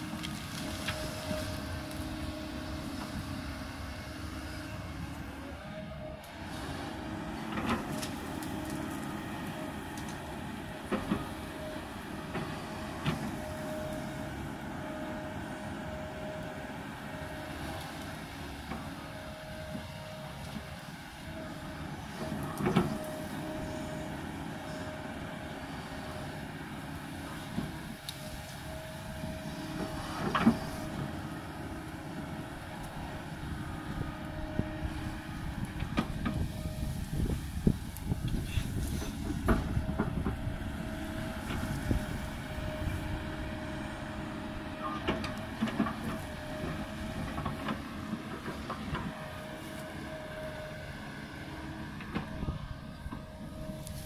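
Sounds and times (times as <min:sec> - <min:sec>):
excavator diesel engine running: 0:00.0 - 0:54.0
thin engine whine: 0:00.0 - 0:54.0.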